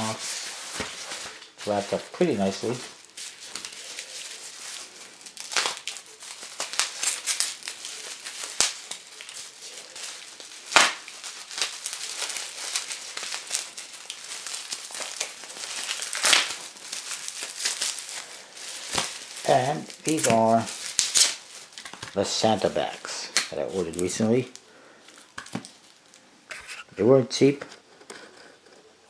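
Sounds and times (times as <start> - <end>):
wrapping crinkling and tearing: 0.0 - 29.0.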